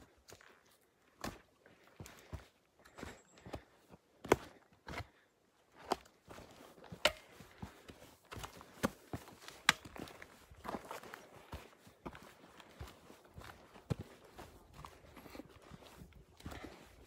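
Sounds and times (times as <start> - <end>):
footsteps on rocky dirt trail: 0.0 - 17.0.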